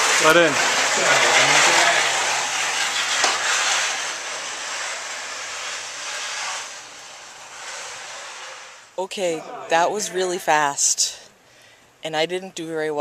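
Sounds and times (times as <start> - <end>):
sled runners scraping over ice: 0.0 - 10.6.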